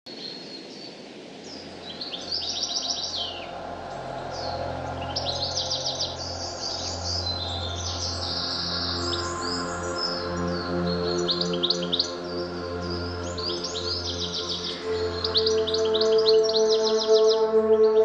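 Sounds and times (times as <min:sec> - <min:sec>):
songbirds chirping and trilling: 0:00.1 - 0:18.0.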